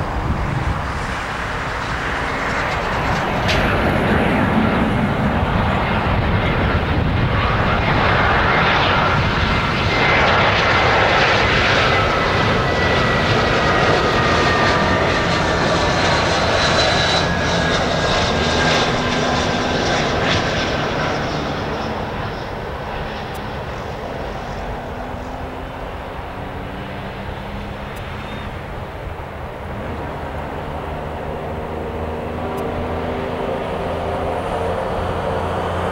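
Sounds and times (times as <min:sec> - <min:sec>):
jet airliner roar and whine: 0:00.0 - 0:35.9.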